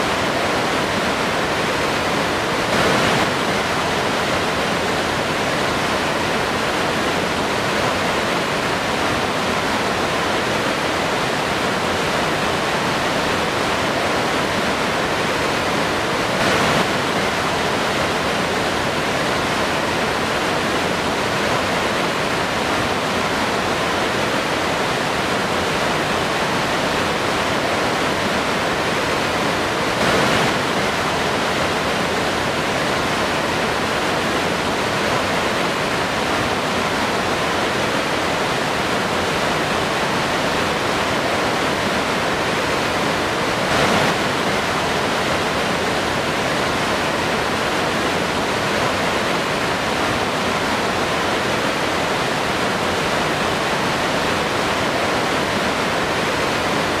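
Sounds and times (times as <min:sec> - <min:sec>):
waterfall crashing: 0:00.0 - 0:57.0.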